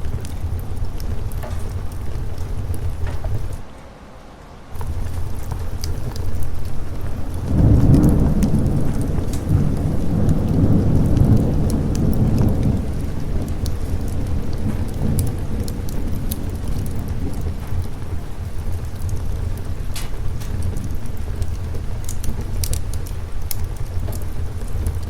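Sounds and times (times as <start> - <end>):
sharp crackles: 0.0 - 3.6, 4.7 - 25.0
thunder rolling: 0.0 - 3.6, 4.8 - 25.0
steady rain: 0.0 - 25.0.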